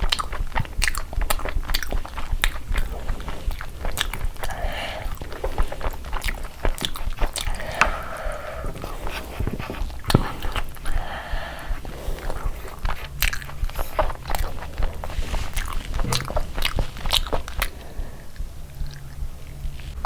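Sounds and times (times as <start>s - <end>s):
crunchy chewing of food: 0.0s - 20.0s
mouth noises: 0.0s - 20.0s.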